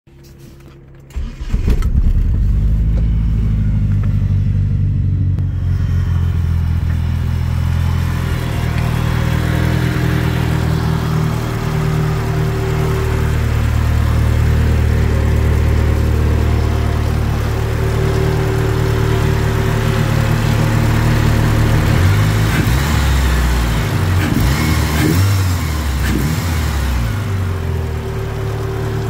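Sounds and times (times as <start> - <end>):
car engine idling: 0.2 - 29.0
car engine cranking: 0.3 - 4.8, 5.4 - 27.0.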